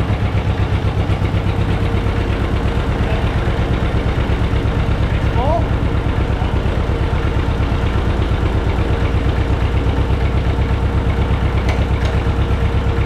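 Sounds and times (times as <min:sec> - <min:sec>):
exhaust leak ticking: 0:00.0 - 0:13.0
tractor engine idling: 0:00.0 - 0:13.0.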